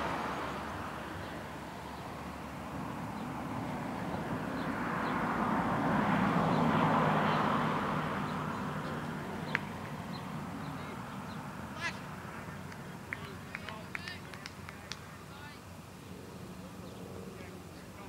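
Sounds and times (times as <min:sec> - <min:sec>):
vehicle passing by: 0:00.0 - 0:18.0.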